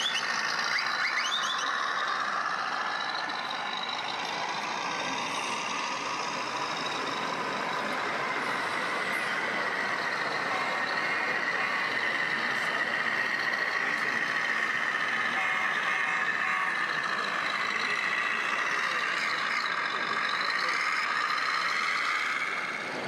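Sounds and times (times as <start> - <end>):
background hubbub: 0.0 - 23.0
truck engine sound from speaker: 0.0 - 23.0.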